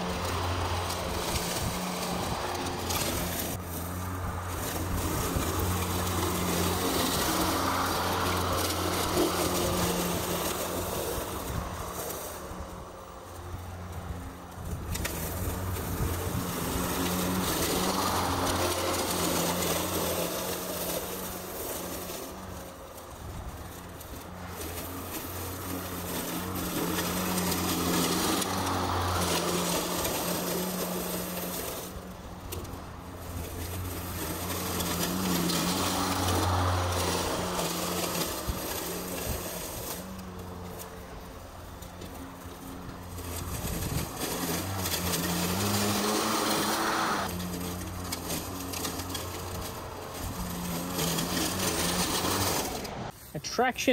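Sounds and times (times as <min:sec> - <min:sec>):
grass cutting rush: 0:00.0 - 0:53.9
lawn mower motor hum: 0:00.0 - 0:53.9.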